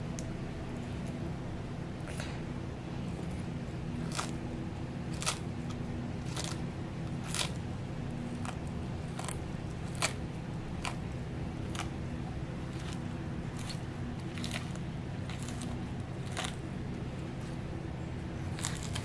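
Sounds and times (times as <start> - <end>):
steady low hum: 0.0 - 19.0
tortoise crunching lettuce: 3.0 - 19.0.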